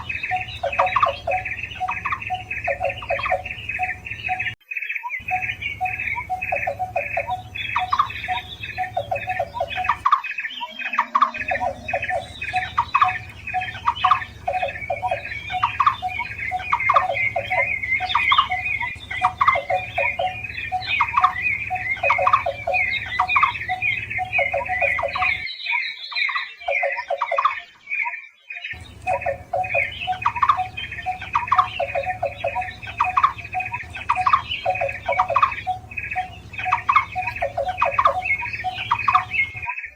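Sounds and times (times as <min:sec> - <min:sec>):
barbet calls: 0:00.0 - 0:04.6, 0:05.2 - 0:27.6, 0:28.7 - 0:39.9.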